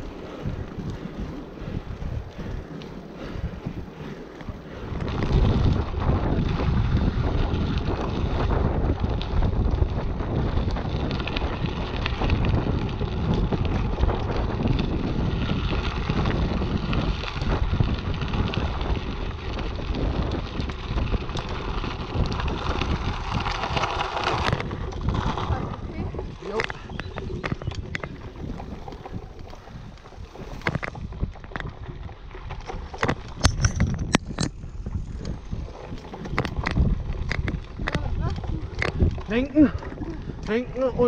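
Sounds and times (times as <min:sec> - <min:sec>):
bike clicks and rattles: 0:00.0 - 0:41.0
wind buffeting microphone: 0:00.0 - 0:41.0.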